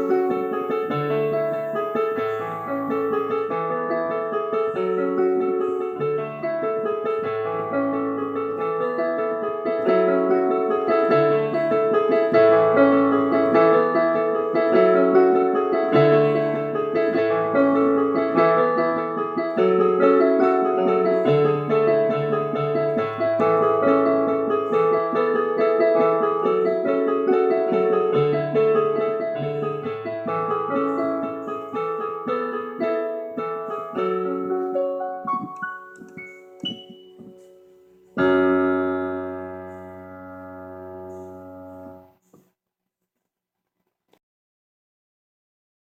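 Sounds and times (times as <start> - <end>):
solo piano melody: 0.0 - 42.3.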